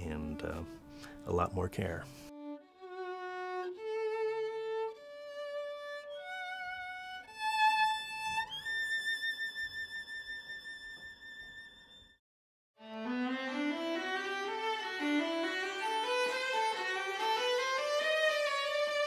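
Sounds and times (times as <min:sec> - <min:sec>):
solo violin melody: 0:00.0 - 0:12.2, 0:12.8 - 0:19.0.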